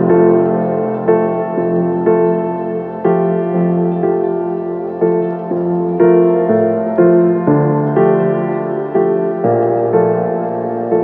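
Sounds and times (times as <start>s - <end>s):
sustained keyboard chords: 0.0s - 11.0s.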